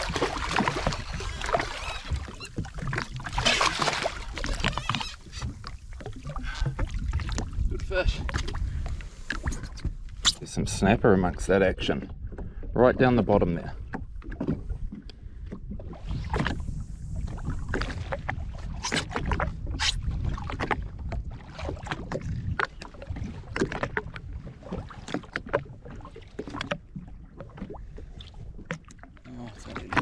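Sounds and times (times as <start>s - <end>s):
water lapping against a hull: 0.0s - 30.0s
wind rumble on microphone: 0.0s - 30.0s.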